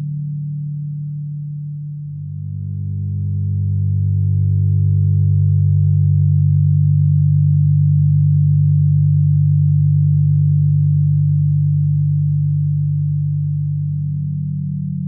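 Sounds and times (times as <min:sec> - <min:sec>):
low electronic sine drone: 0:00.0 - 0:15.0.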